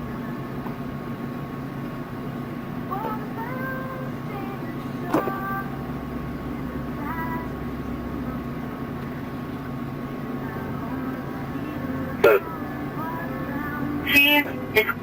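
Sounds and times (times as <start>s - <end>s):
steady radio hum: 0.0s - 15.0s.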